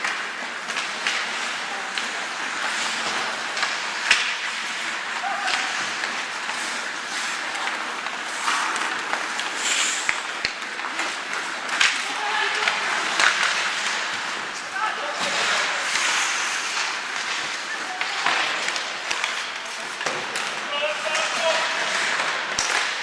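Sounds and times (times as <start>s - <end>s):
skates scraping ice: 0.0s - 23.0s
sticks clacking on puck: 0.0s - 23.0s.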